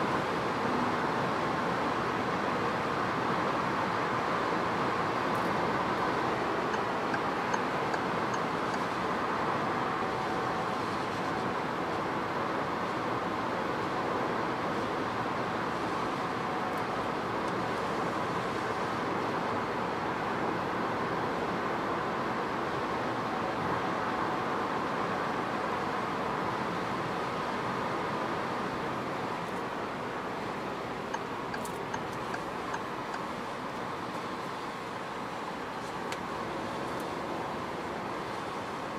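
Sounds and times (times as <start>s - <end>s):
tyre and wind noise in car: 0.0s - 38.9s.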